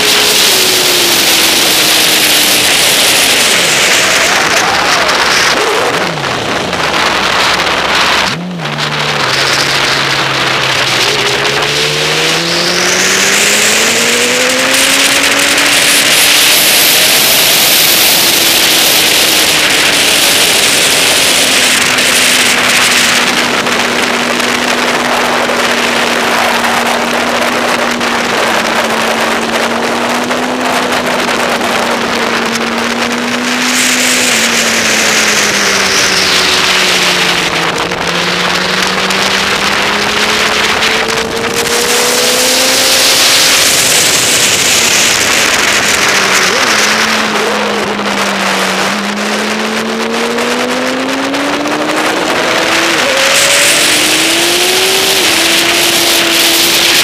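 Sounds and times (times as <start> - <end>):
motorcycle engine: 0.0 - 57.0
wind rush on microphone: 0.0 - 57.0.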